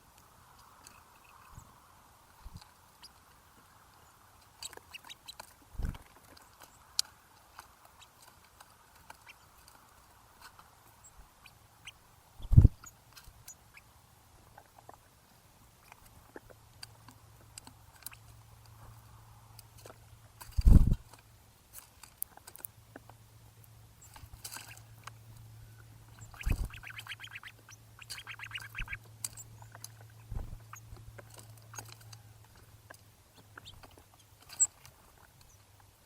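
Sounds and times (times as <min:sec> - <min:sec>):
birds pecking at seed: 0:00.0 - 0:36.0.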